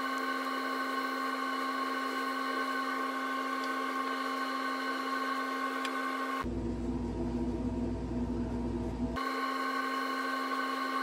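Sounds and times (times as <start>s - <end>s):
electric motor hum with whine: 0.0s - 11.0s.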